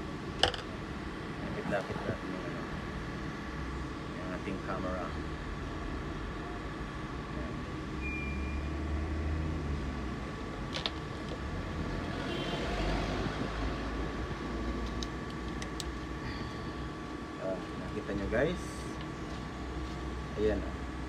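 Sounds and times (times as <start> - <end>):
mechanical hum with whine: 0.0 - 21.0.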